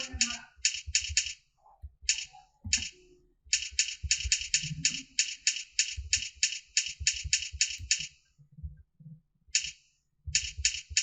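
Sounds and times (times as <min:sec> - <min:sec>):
keyboard typing clicks: 0:00.0 - 0:01.4, 0:02.0 - 0:08.2, 0:09.5 - 0:11.0.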